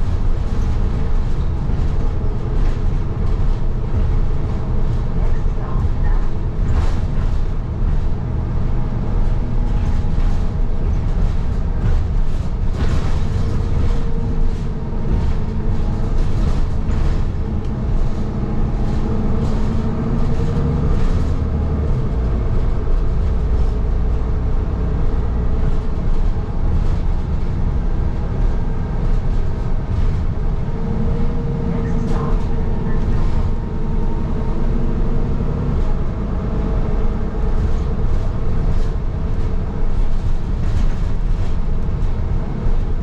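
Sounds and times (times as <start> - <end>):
bus engine and road rumble: 0.0 - 43.0
rattles and knocks of bus body: 0.0 - 43.0.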